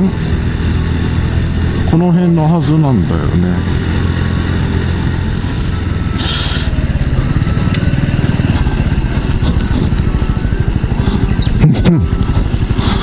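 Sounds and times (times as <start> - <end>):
motorcycle engine slowing to idle: 0.0 - 13.0.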